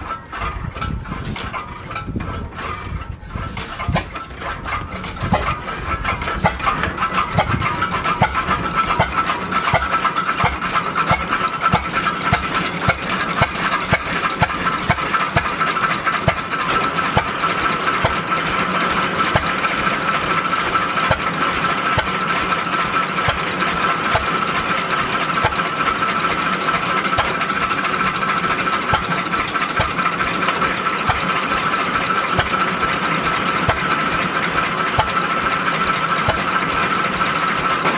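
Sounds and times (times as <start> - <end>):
stationary engine running: 0.0 - 37.9
chaff cutter clatter: 0.1 - 37.9.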